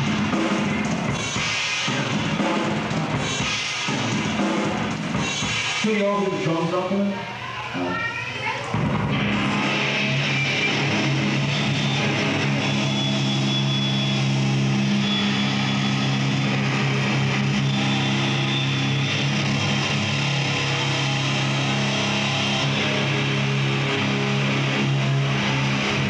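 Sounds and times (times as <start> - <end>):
distorted metal guitars and bass: 0.0 - 6.9, 7.7 - 26.0.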